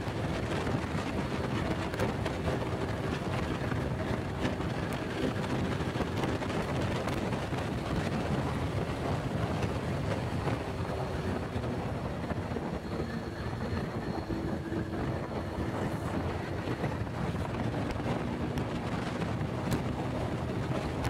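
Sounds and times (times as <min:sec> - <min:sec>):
small motorbike engine running: 0:00.0 - 0:21.0
wind buffeting microphone: 0:00.0 - 0:21.0.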